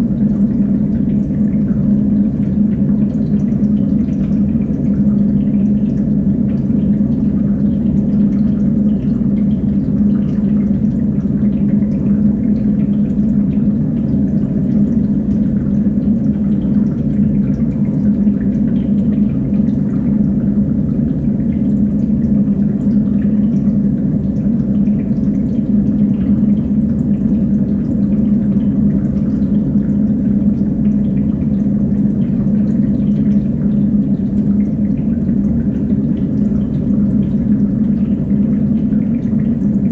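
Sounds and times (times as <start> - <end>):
constant low hum: 0.0 - 39.9
water running and trickling: 0.0 - 39.9.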